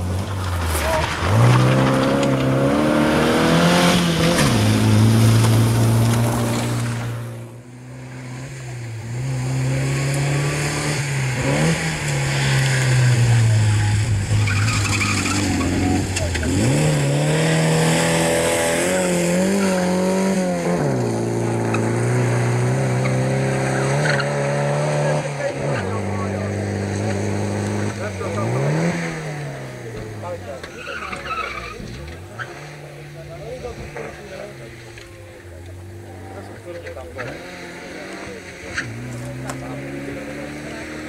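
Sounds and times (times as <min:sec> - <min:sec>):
rally car engine revving: 0:00.0 - 0:41.0.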